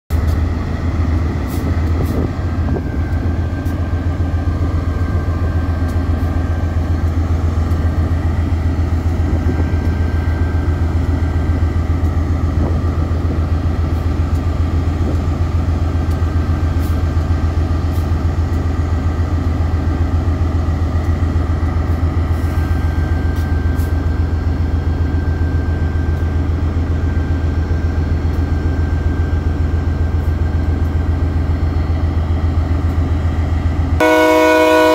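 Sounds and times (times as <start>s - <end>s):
locomotive engine humming: 0.1s - 34.9s.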